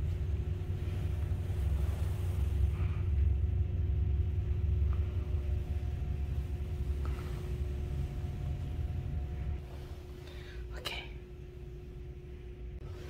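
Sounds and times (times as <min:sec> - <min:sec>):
faint even hum: 0:00.0 - 0:13.0
ventilation rumble: 0:00.0 - 0:13.0.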